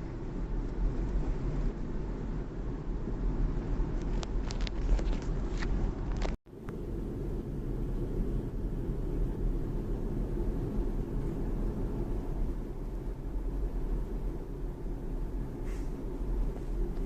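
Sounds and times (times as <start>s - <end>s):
road and tyre rumble: 0.0s - 17.0s.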